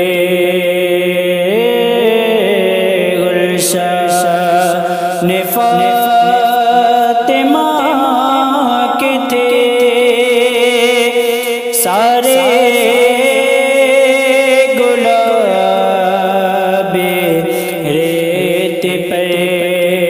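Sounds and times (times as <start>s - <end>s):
person singing devotional song: 0.0s - 20.0s.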